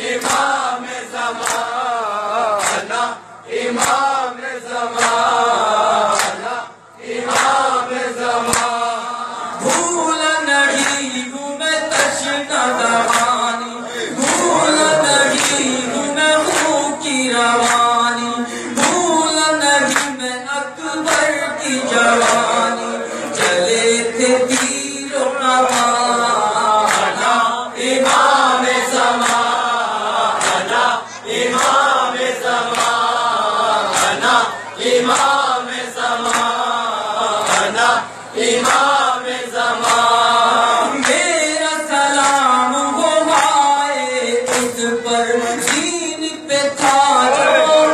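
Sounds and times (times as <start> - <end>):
men chanting into a microphone: 0.0 - 47.9.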